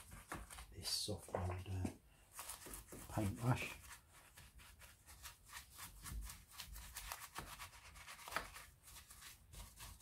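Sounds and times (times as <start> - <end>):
paintbrush scrubbing slate: 1.6 - 10.0.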